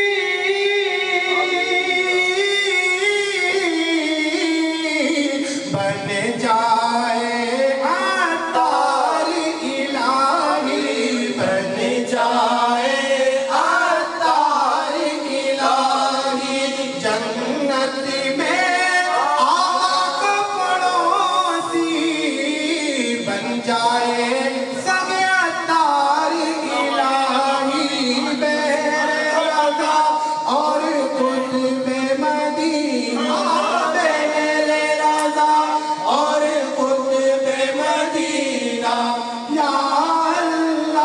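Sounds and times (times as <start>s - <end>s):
men singing unaccompanied: 0.0s - 41.0s.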